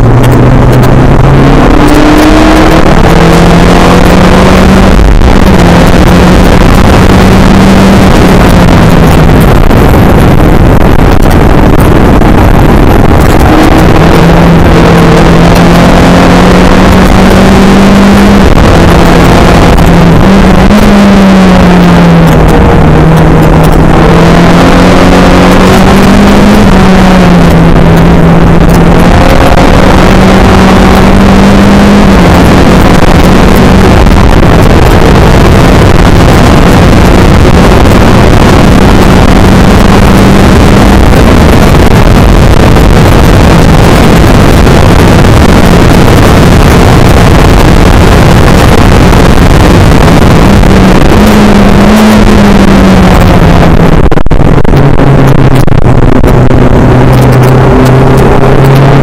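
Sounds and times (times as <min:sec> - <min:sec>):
heavy rush of noise: 0:00.0 - 0:59.0
race car engine revving: 0:00.0 - 0:59.0.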